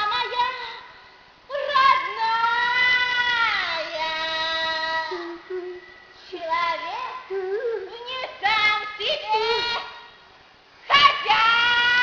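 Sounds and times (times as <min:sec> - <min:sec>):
high voice singing unaccompanied: 0:00.0 - 0:10.1, 0:10.8 - 0:12.0.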